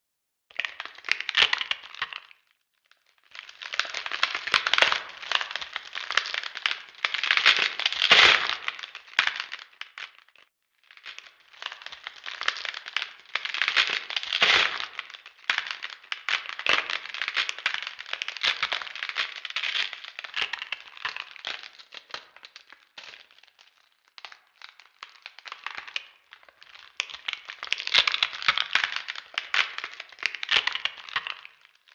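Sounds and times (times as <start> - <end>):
bones cracking and snapping: 0.5 - 31.9.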